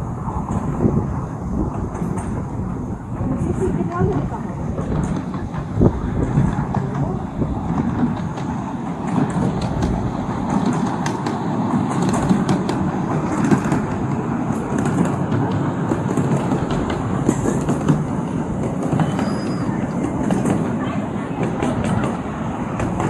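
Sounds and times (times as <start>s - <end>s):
miniature train rolling on track: 0.0s - 23.0s.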